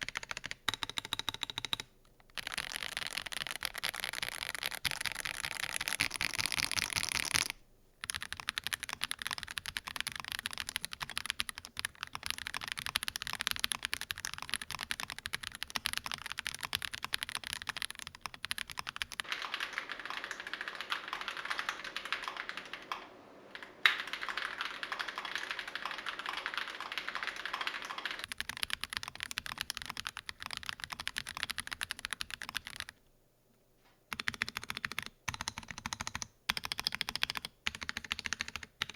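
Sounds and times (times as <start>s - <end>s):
typing on mechanical keyboard: 0.0s - 33.0s, 34.1s - 38.9s.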